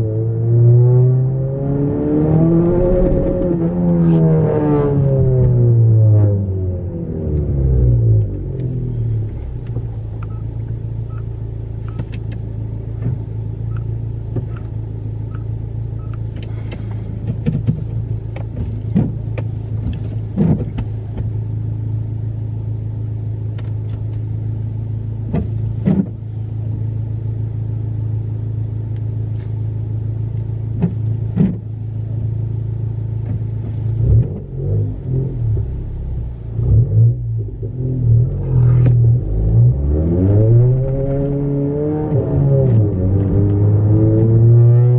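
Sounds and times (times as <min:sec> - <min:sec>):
car engine droning: 0:00.0 - 0:44.9.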